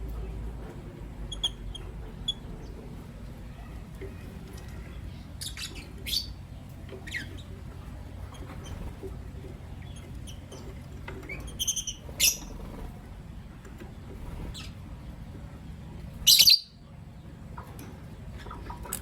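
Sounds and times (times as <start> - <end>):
lovebirds chirping: 0.0 - 13.1, 13.9 - 19.0.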